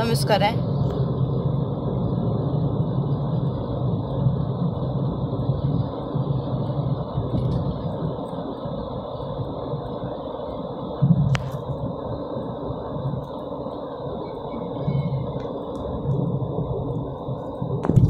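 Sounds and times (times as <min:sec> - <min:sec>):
car interior engine and road noise: 0:00.0 - 0:18.0.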